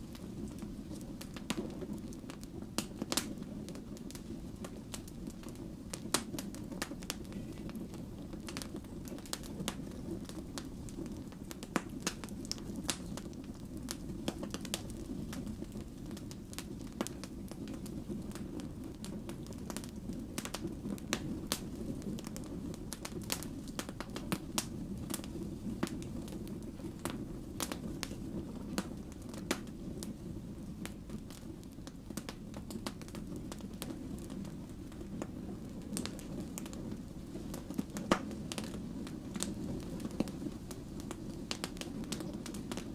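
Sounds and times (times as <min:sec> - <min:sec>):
logs crackling and popping: 0:00.0 - 0:42.9
wood fire roaring: 0:00.0 - 0:42.9.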